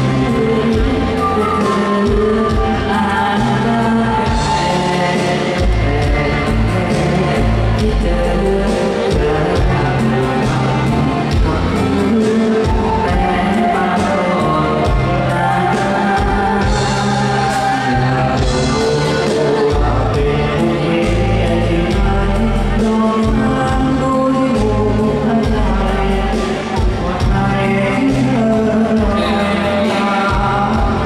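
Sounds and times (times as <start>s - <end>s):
amplified pop music with heavy bass: 0.0s - 31.0s
men's vocal group singing: 0.0s - 31.0s.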